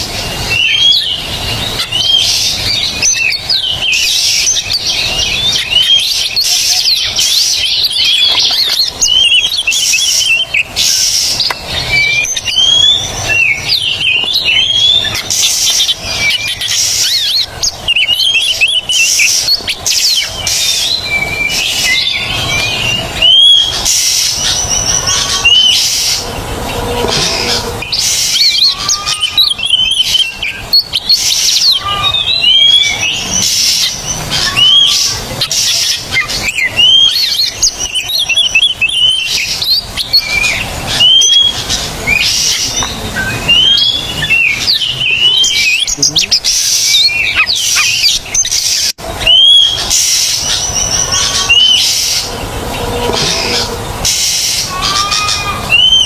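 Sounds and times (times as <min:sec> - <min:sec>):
bird singing loudly: 0:00.0 - 0:56.0.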